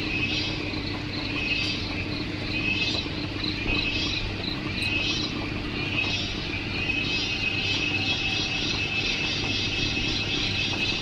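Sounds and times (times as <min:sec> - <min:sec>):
cicadas calling: 0:00.0 - 0:11.0.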